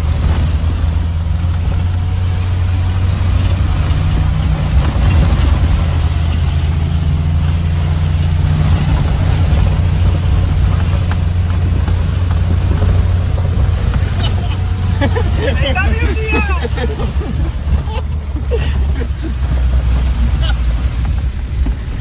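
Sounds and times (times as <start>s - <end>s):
car engine running: 0.0s - 22.0s
water spraying against car: 0.0s - 22.0s.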